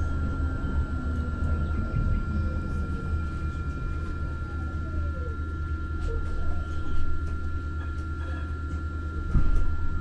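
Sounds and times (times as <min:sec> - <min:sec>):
light rail car rumble and whine: 0:00.0 - 0:10.0.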